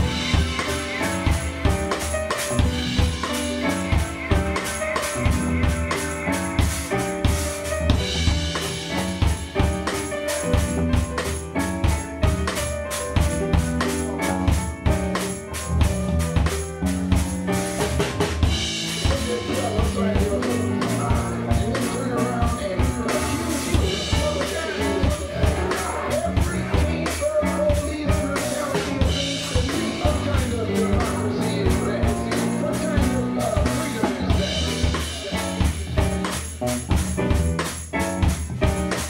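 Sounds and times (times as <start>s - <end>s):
drum kit with cymbals: 0.0s - 39.0s
electric bass: 0.0s - 39.0s
keyboards: 0.0s - 39.0s.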